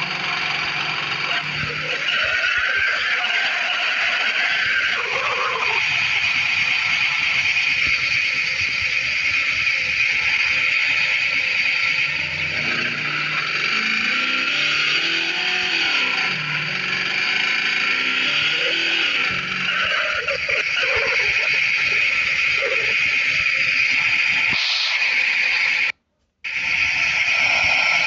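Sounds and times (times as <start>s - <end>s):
engine running steadily: 0.0s - 25.9s, 26.5s - 28.0s.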